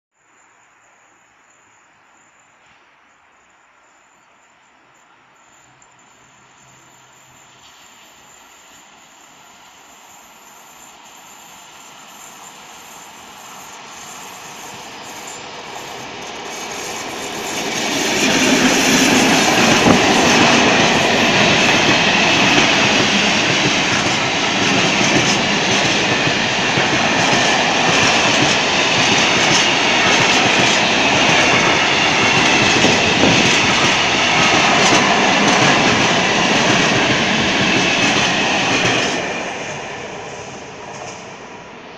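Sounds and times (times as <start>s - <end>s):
diesel locomotive approaching: 5.0s - 41.9s
train wheels rumbling on rails: 6.2s - 41.9s.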